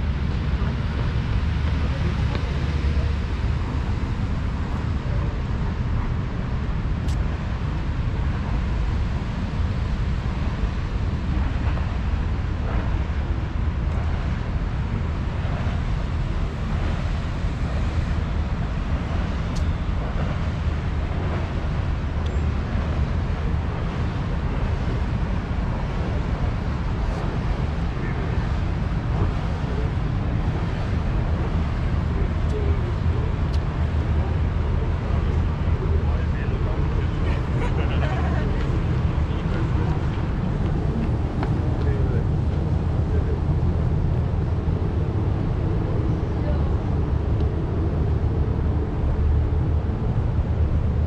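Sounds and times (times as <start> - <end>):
distant traffic: 0.0 - 51.0
wind on microphone: 0.0 - 51.0.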